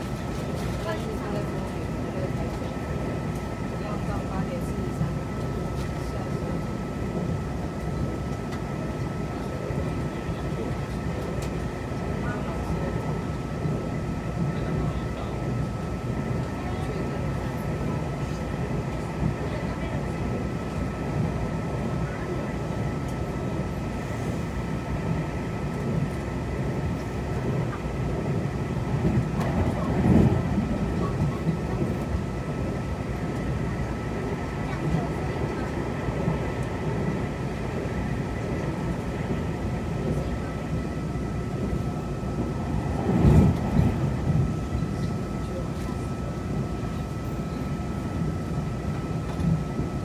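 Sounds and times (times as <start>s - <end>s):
train coach rumble: 0.0s - 50.0s.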